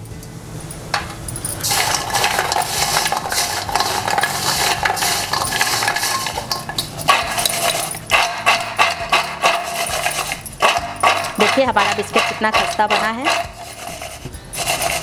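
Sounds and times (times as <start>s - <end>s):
hard biscuits rattling in steel bowl: 1.4s - 15.0s.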